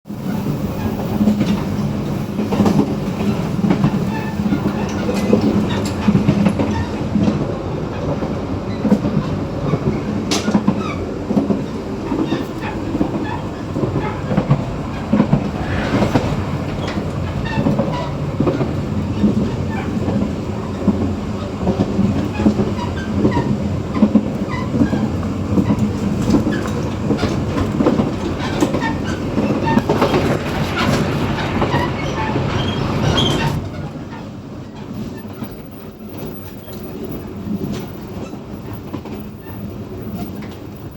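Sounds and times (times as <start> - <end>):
train rumbling at speed: 0.0 - 40.9
wheels clicking over track: 0.8 - 40.9.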